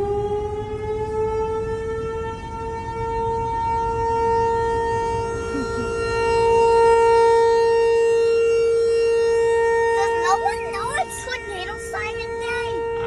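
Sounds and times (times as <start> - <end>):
warning siren steady tone: 0.0 - 13.0.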